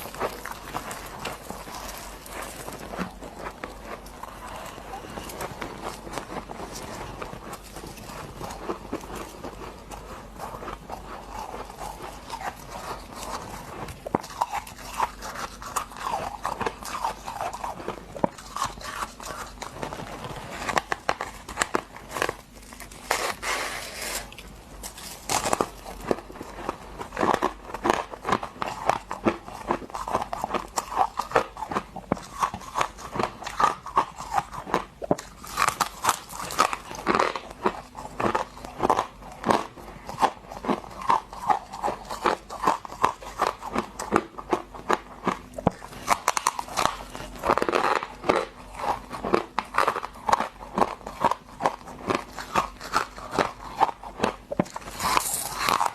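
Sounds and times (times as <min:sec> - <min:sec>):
crunching and chewing frost: 0:00.0 - 0:55.9.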